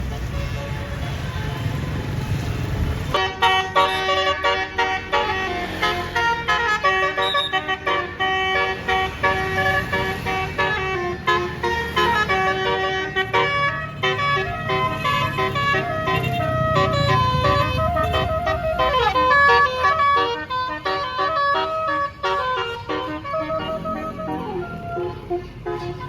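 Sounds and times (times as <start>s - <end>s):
bus engine rumble: 0.0s - 26.0s
multi-trumpet horn melody: 3.1s - 26.0s.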